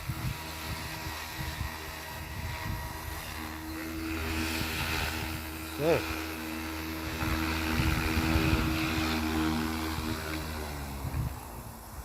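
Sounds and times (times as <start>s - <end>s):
rc helicopter rotor whine: 0.0s - 12.0s
wind rumble on microphone: 0.0s - 12.0s.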